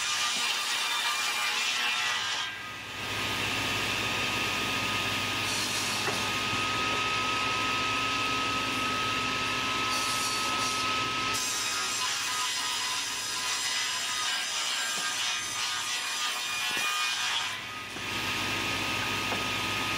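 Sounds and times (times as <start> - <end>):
sawmill machinery running: 0.0 - 19.9.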